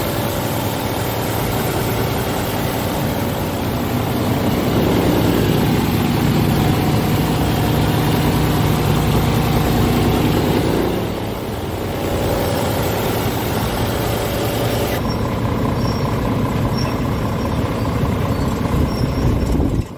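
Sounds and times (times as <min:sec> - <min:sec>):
diesel truck engine idling: 0:00.0 - 0:19.9.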